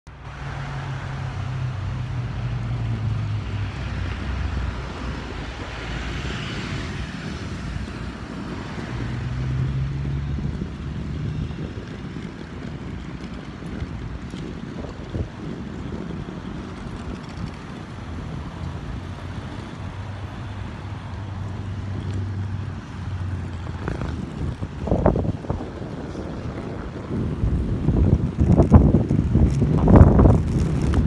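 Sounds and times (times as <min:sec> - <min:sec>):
road noise rushing: 0:00.1 - 0:31.0
traffic engine hum: 0:00.1 - 0:31.0.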